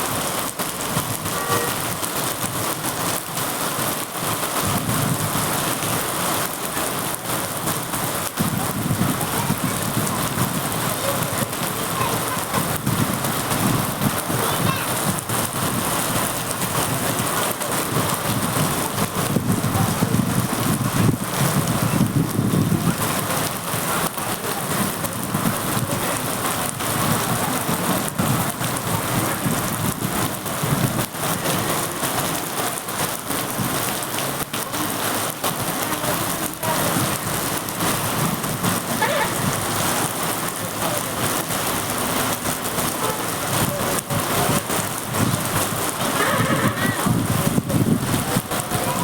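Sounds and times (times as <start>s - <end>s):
heavy rain: 0.0s - 49.0s
raindrops hitting close by: 0.0s - 49.0s.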